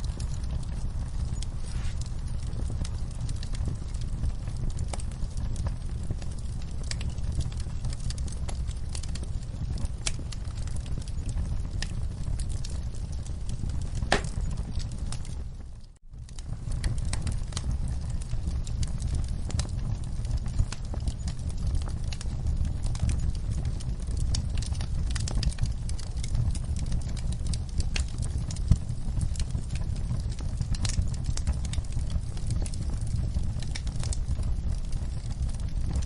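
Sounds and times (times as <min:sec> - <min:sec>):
low rumble of flames: 0:00.0 - 0:36.0
wood fire crackling and popping: 0:00.0 - 0:36.0.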